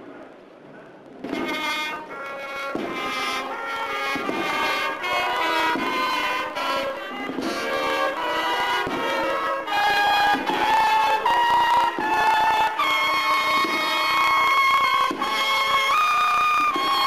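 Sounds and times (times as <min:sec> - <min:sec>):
drum beats: 0:01.2 - 0:17.0
cornets playing a march: 0:01.3 - 0:17.0.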